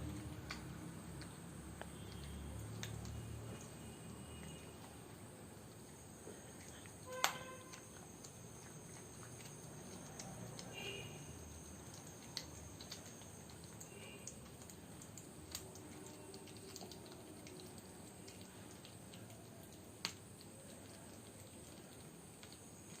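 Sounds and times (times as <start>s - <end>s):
cat chewing and licking: 0.0s - 23.0s.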